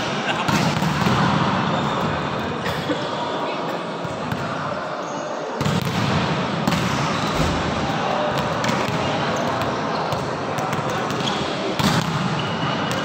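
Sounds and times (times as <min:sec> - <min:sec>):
players' voices: 0:00.0 - 0:13.0.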